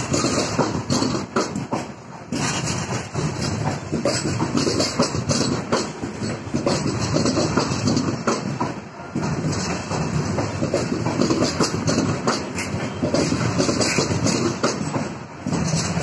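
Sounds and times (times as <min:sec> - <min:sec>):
train rolling rumble: 0:00.0 - 0:16.0
train wheels clattering over rail joints: 0:00.0 - 0:16.0.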